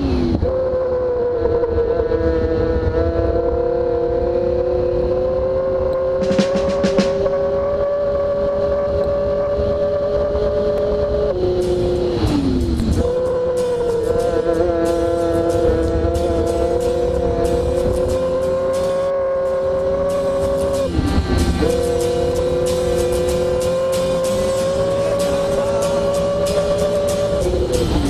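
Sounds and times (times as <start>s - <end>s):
powerboat engine revving: 1.8s - 28.0s.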